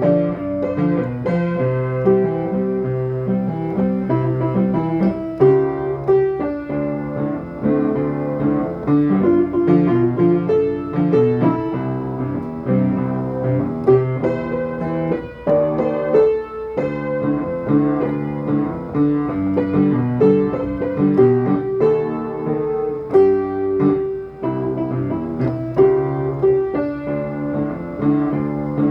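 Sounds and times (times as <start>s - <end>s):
lively piano tune: 0.0s - 28.9s.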